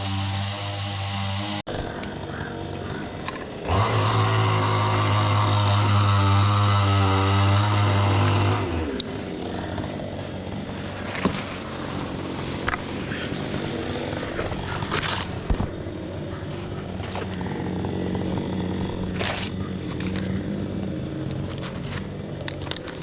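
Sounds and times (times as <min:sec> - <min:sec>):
chainsaw engine running: 0:00.0 - 0:23.0.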